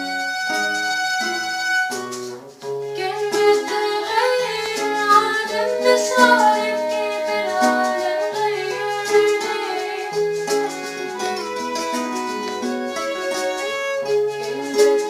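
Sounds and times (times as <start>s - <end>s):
plucked strings: 0.0s - 15.0s
violin melody: 0.0s - 15.0s.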